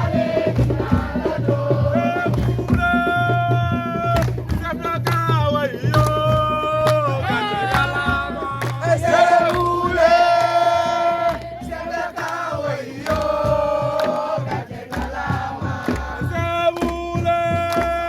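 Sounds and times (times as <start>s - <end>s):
group singing and chanting: 0.0s - 18.0s
pulsing drum beat: 0.0s - 18.0s.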